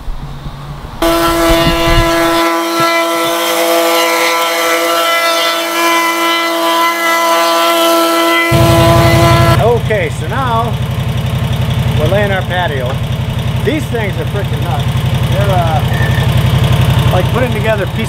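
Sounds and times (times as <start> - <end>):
plate compactor engine drone: 1.0 - 18.0.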